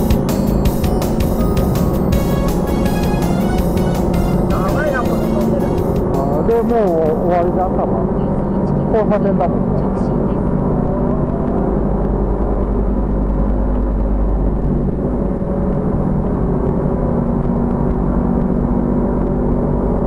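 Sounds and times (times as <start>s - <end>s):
motorcycle engine cruising: 0.0s - 20.0s
road and wind noise: 0.0s - 20.0s.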